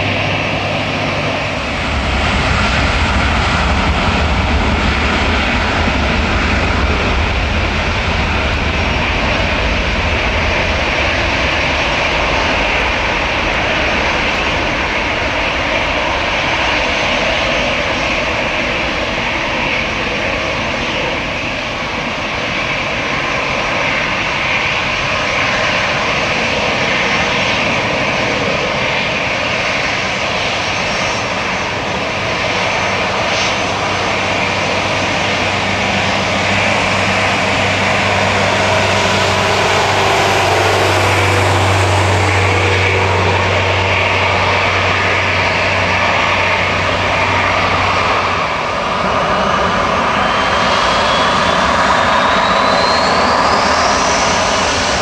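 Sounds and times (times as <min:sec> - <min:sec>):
jet engine whine and roar: 0:00.0 - 0:55.0.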